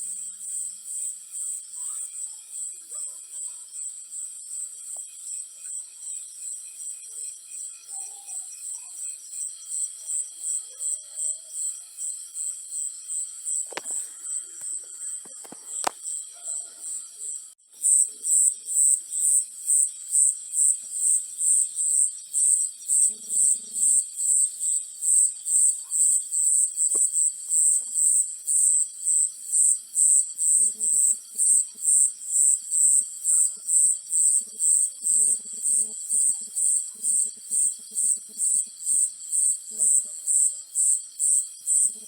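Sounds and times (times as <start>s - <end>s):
cricket chirping: 0.0s - 42.0s.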